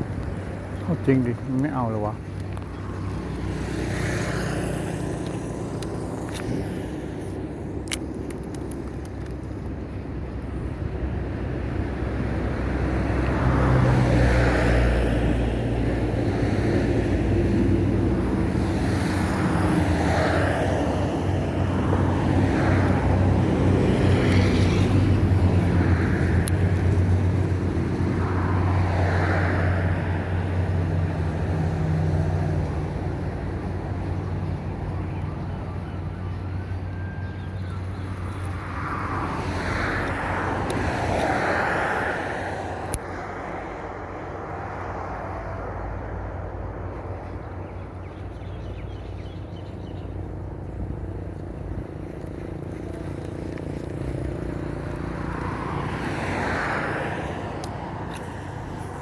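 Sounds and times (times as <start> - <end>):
car and truck engines humming: 0.0 - 59.0
vehicles passing: 0.0 - 59.0.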